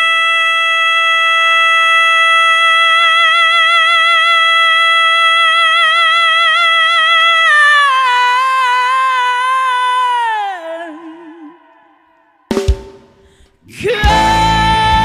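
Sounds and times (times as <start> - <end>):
woman singing long notes: 0.0 - 12.2, 13.7 - 15.0.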